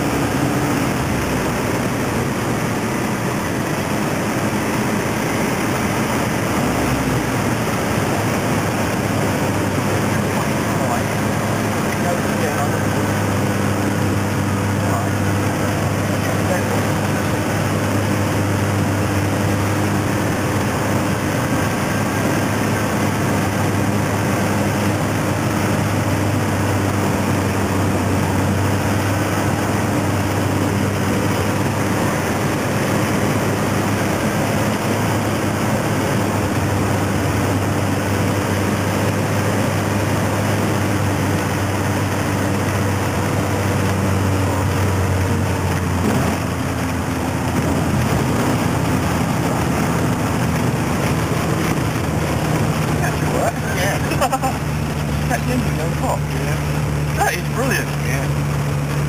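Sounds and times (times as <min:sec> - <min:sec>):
wind rushing: 0:00.0 - 0:57.4
microlight engine and propeller: 0:00.0 - 0:59.0.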